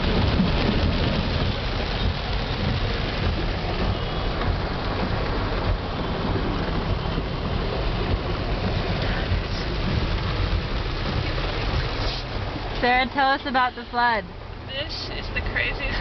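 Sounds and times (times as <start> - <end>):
car driving through water: 0.0 - 16.0.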